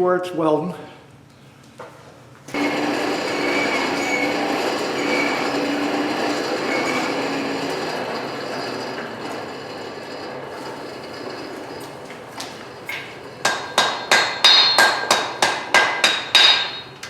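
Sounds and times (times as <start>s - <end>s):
forge blower air rush: 2.5s - 17.0s.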